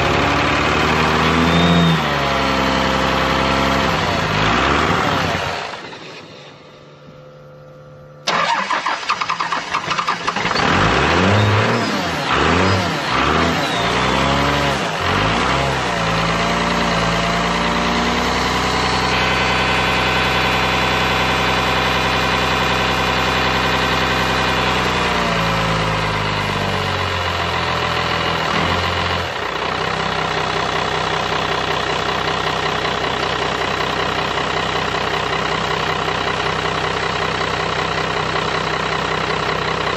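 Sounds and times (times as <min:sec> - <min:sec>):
diesel engine cranking and running: 0:00.0 - 0:07.1, 0:08.2 - 0:39.9.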